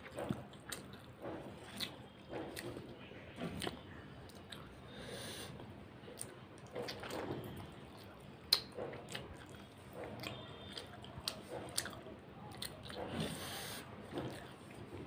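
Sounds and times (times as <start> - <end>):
chewing and biting food: 0.0 - 4.8, 6.0 - 15.0.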